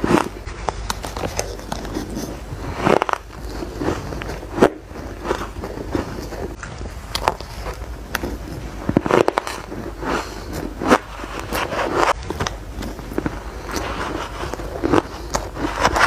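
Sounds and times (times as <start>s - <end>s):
chewing shaved ice crunches: 0.0s - 16.0s.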